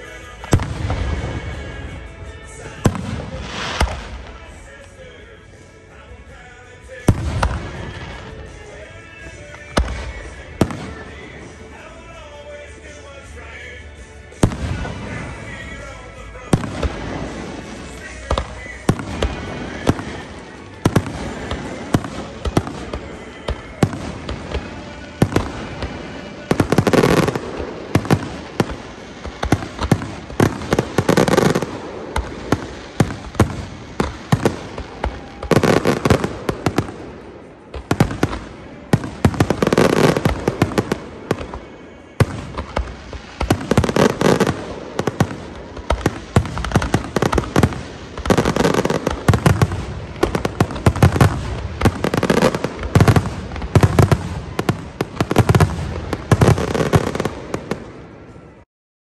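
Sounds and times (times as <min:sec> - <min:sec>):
fireworks shells booming: 0:00.0 - 0:05.2, 0:14.3 - 0:58.4
fireworks cracking and popping: 0:00.0 - 0:58.5.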